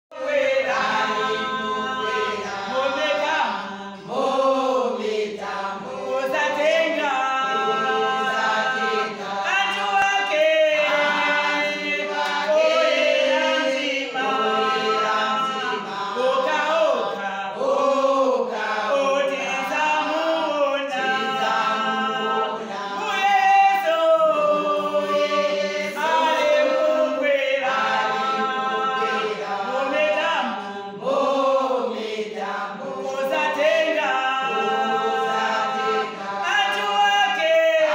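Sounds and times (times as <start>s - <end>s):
women's choir singing a cappella: 0.1s - 37.9s.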